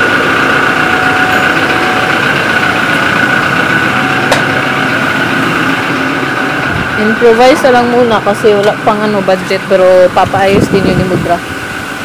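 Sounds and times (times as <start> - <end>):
high whine: 0.0 - 12.0
steady mechanical hum: 0.0 - 12.0.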